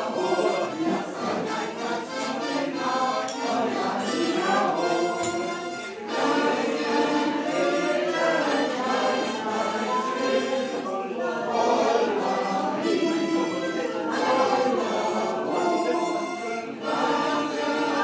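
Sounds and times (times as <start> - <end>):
women's choir singing: 0.0 - 18.0.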